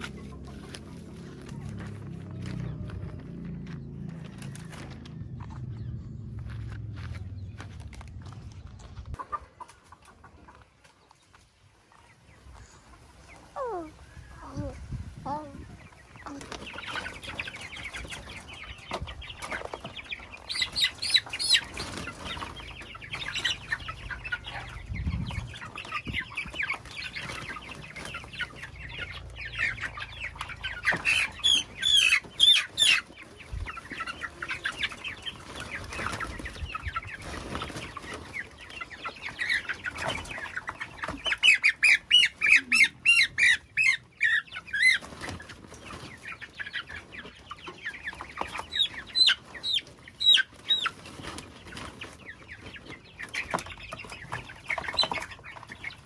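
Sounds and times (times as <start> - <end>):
chickens clucking: 0.0 - 56.0
rapid loud chicken calls: 9.1 - 56.0.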